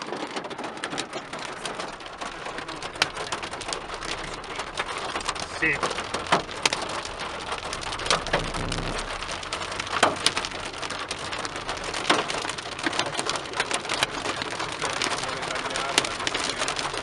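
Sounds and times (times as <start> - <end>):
hail and rain on car roof: 0.0 - 17.0.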